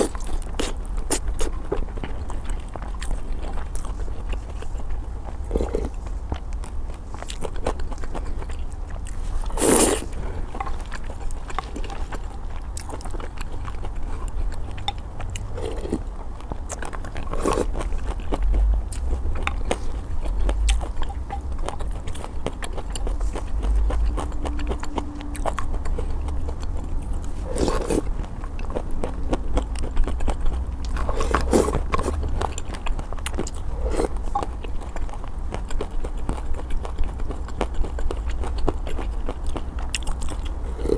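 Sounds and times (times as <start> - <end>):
chewing and slurping noodles: 0.0 - 40.9
low steady hum: 0.0 - 40.9.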